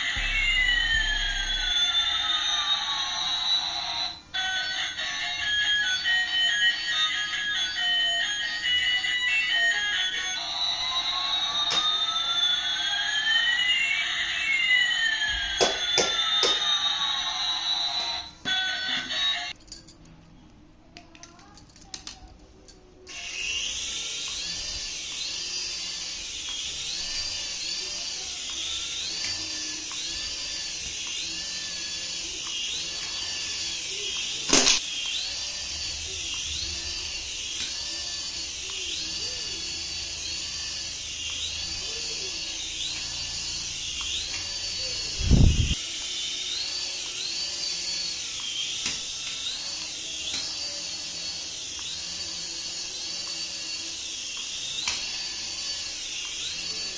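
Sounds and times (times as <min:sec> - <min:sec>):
toy motor whining: 0:00.0 - 0:19.6, 0:21.2 - 0:56.9.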